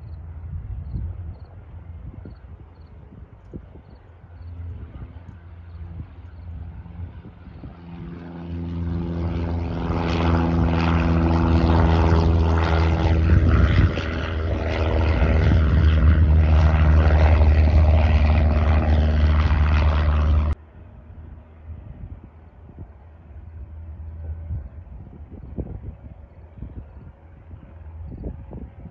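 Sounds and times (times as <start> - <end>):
light airplane engine and propeller: 0.0 - 28.9.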